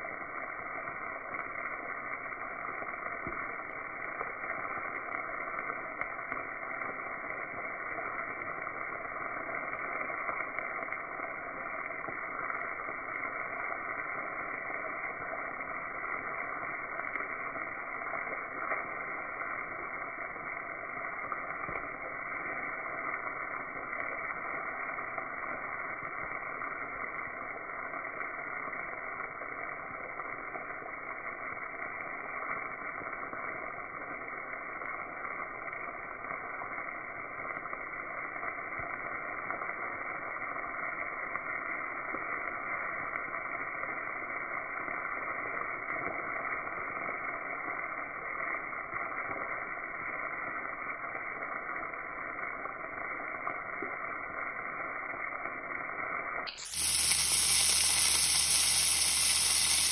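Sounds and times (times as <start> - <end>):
faint crackles: 0.0 - 59.9
mushrooms frying in hot oil: 0.0 - 59.9.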